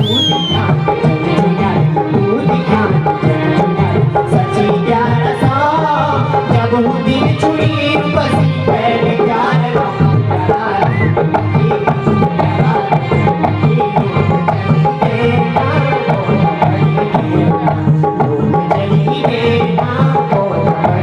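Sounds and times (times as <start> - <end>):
hand drum rhythm: 0.0 - 21.0
sustained folk melody: 0.0 - 21.0.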